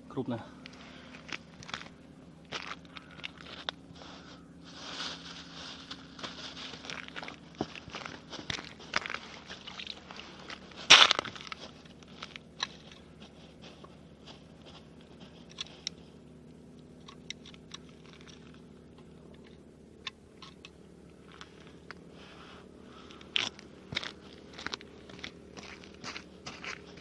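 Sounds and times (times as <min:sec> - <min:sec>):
boots crunching on snow and ice: 0:00.6 - 0:19.4, 0:20.3 - 0:27.0.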